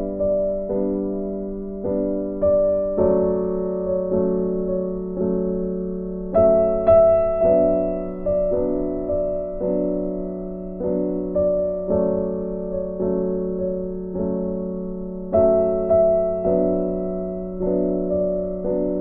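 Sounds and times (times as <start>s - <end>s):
soft slow piano chords: 0.0s - 19.0s.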